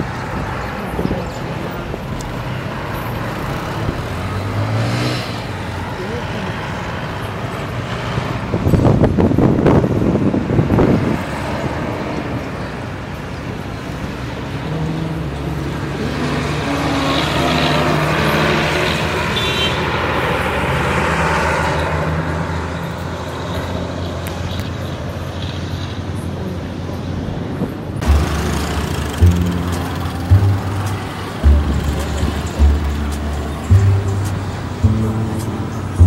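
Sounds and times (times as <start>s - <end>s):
vehicle rushing past: 0.0s - 12.8s, 14.2s - 24.2s, 28.0s - 36.0s
minibus engine running: 0.0s - 36.0s.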